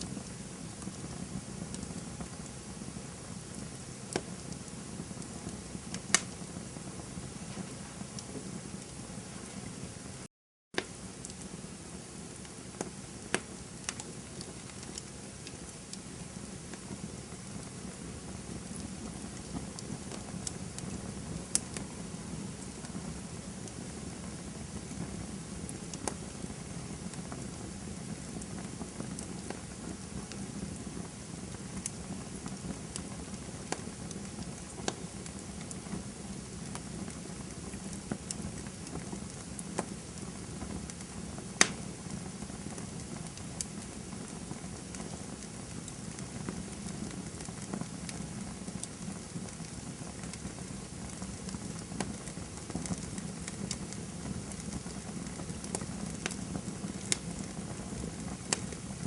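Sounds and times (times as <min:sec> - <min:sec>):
sharp pops of burning wood: 0:00.0 - 0:09.8, 0:10.8 - 0:31.0, 0:31.6 - 0:59.0
campfire crackling: 0:00.0 - 0:59.0.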